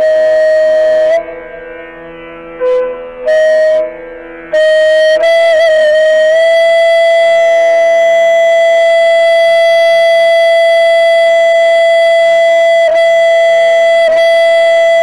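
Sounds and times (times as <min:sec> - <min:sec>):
wind instrument long note: 0:00.0 - 0:15.0.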